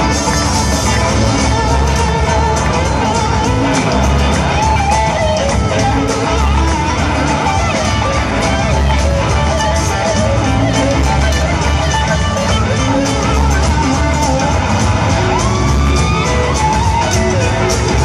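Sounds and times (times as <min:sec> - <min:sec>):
live rock band playing loudly: 0:00.0 - 0:18.0.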